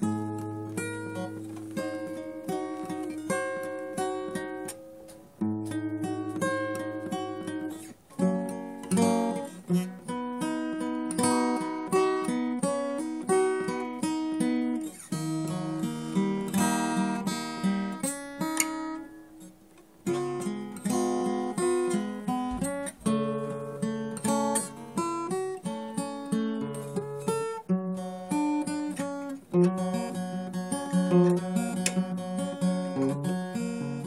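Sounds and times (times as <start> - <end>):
plucked string instrument melody: 0.0 - 34.0.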